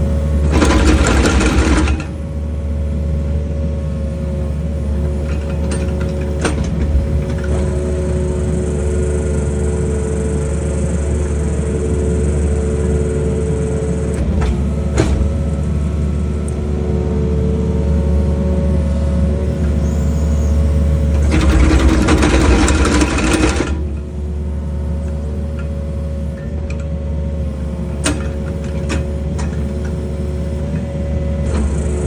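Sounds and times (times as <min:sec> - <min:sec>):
excavator engine running: 0:00.0 - 0:32.0
hydraulic whine: 0:00.0 - 0:32.0.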